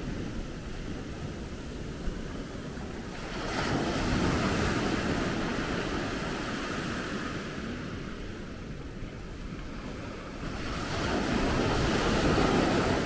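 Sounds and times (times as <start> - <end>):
sea waves washing onto beach: 0.0 - 13.0
wind on microphone: 0.0 - 13.0.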